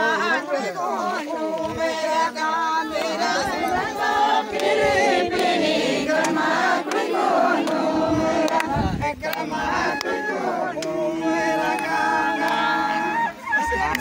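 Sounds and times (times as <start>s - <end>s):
crowd singing and chanting: 0.0s - 14.0s.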